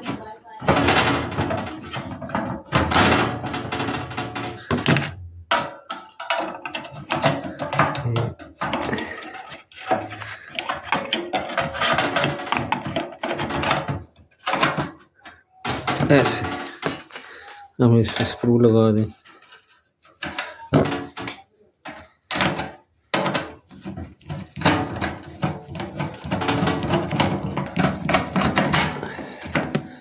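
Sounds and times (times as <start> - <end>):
metal parts knocking and scraping: 0.0 - 30.0.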